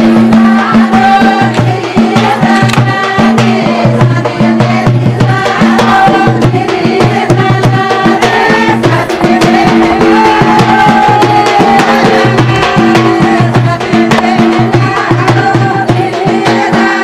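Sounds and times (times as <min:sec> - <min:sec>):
fast drum beat: 0:00.0 - 0:17.0
person singing: 0:00.1 - 0:17.0.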